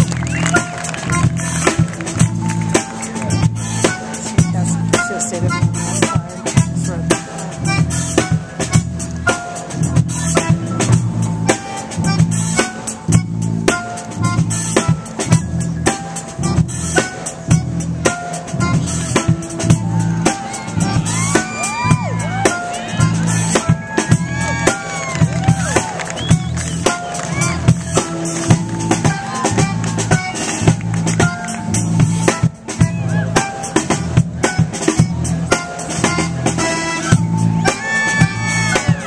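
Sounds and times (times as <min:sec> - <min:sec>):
music with drum beat and bass: 0:00.0 - 0:39.0
swooping tones: 0:00.0 - 0:39.0.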